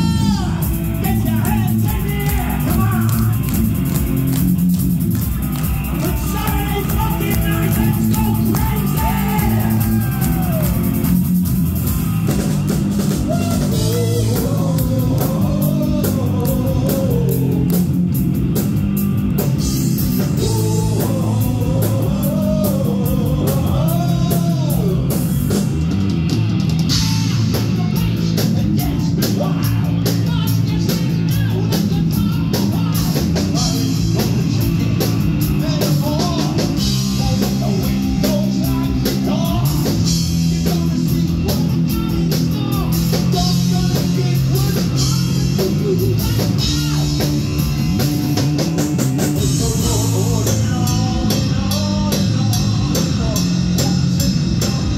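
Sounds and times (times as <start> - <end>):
heavy metal band playing live: 0.0 - 54.9
wavering lead guitar line: 0.0 - 54.9.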